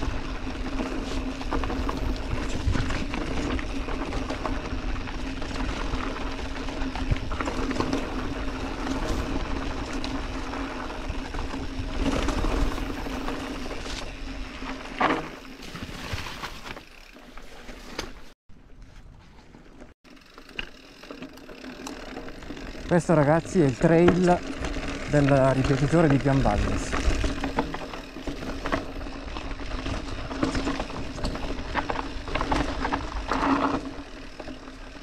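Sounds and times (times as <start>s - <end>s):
bike frame and chain rattling: 0.0s - 18.4s, 19.8s - 35.0s
bike tyres rolling on dirt: 0.0s - 35.0s.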